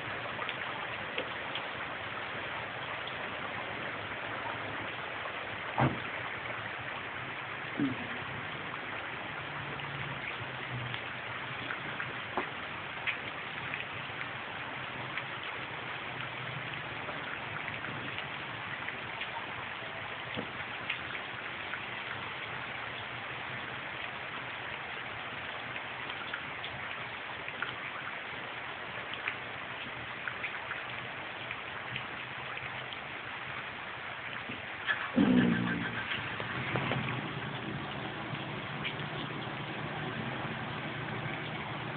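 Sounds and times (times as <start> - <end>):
heavy rain pouring: 0.0 - 41.9
raindrops ticking on surfaces: 0.0 - 41.9.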